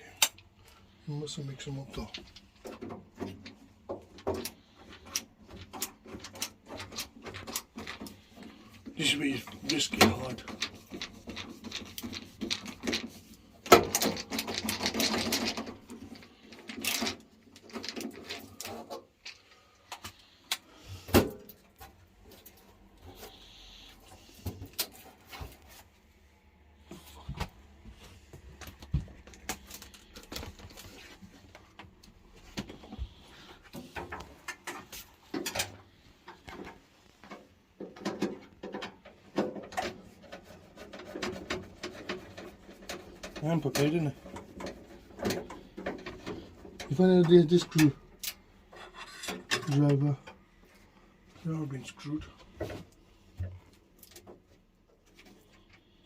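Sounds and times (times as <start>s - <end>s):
hand tools and metal parts rattling: 0.0s - 56.0s.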